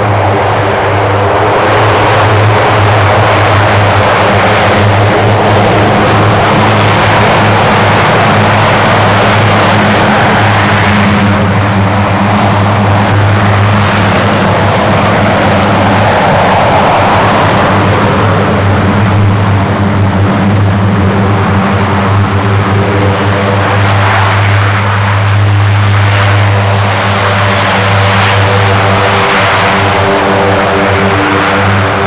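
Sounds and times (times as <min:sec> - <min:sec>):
propeller aircraft engine drone: 0:00.0 - 0:32.0.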